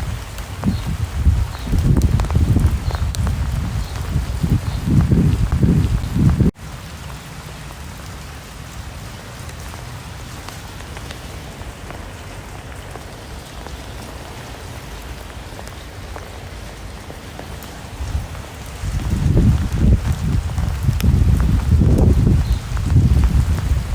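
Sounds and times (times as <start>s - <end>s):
raindrops ticking on a surface: 0.0s - 23.9s
steady rain hiss: 0.0s - 23.9s.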